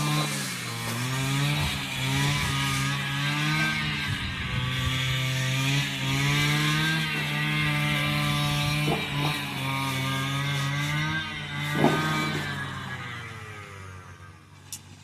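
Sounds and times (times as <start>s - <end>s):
small engine revving: 0.0s - 15.0s.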